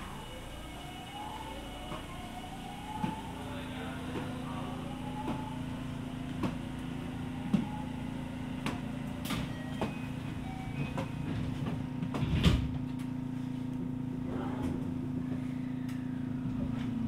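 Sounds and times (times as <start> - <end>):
train interior low hum: 0.0 - 17.0.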